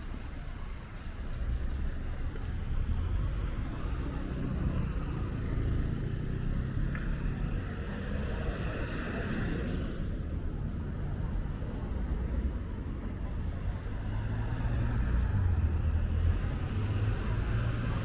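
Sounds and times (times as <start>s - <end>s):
low street rumble: 0.0s - 18.0s.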